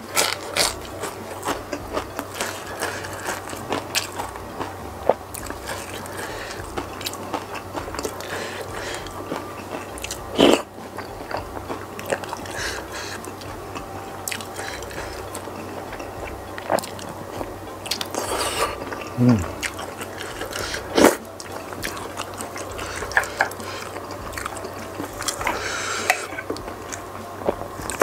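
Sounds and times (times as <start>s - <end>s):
chewing with wet mouth clicks: 0.1s - 28.0s.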